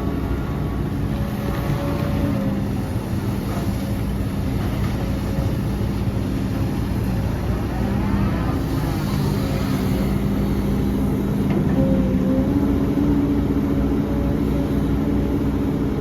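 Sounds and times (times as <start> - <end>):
diesel engine of heavy machinery: 0.0 - 16.0.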